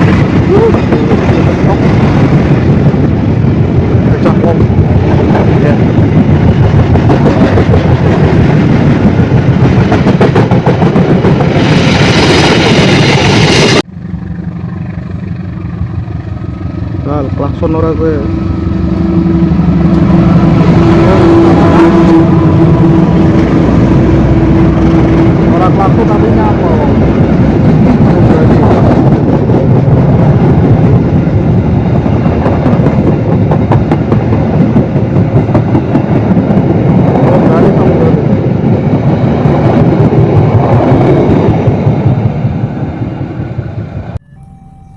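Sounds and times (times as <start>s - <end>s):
train passing with wheel clatter: 0.0s - 44.2s
train engine noise: 0.0s - 44.9s.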